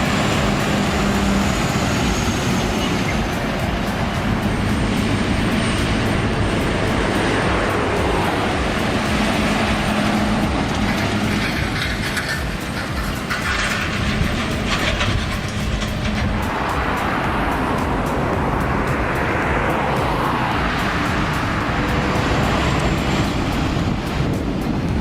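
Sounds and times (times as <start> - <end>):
truck engine and tyre rumble: 0.0 - 25.0.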